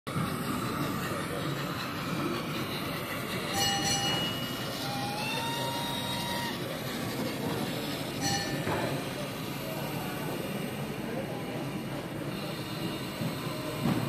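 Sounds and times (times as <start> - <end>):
exhibition hall hubbub: 0.1 - 14.0.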